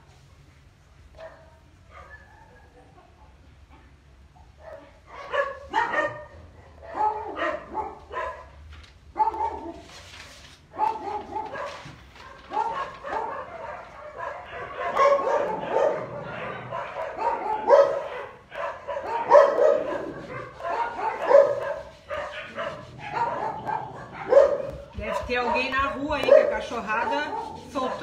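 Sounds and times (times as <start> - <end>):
dogs barking: 1.1 - 3.2, 4.3 - 9.8, 10.7 - 28.0.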